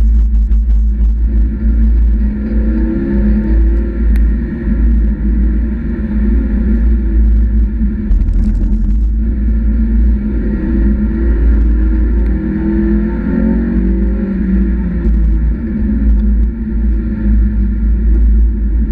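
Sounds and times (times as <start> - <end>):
car engine running at speed: 0.0 - 18.9.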